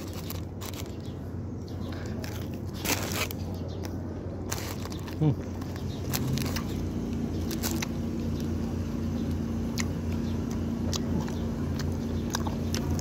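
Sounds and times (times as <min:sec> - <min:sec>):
crunchy chewing: 0:00.0 - 0:13.0
steady low hum: 0:00.0 - 0:13.0.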